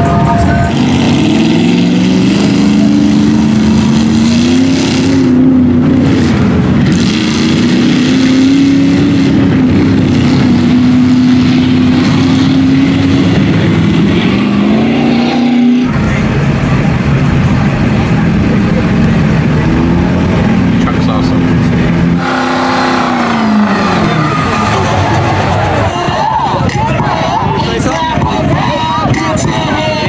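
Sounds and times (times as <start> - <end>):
truck engines at high revs: 0.0 - 30.0.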